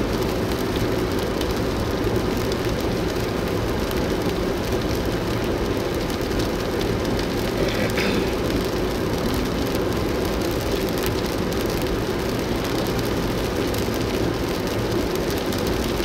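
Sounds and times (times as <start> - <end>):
rain ticking on windshield: 0.0 - 16.0.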